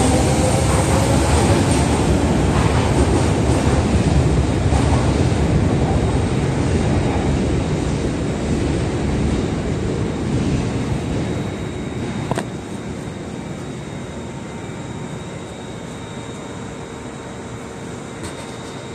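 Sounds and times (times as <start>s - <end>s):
subway train rumbling past: 0.0s - 18.9s.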